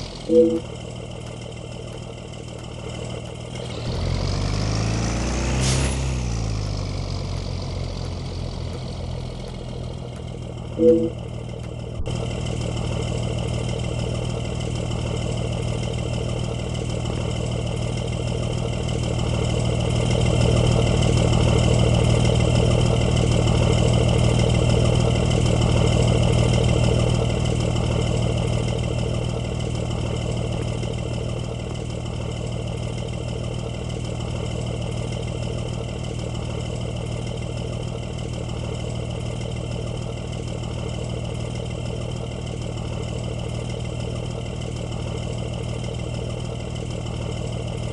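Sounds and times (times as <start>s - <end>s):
bus engine running: 0.0s - 47.9s.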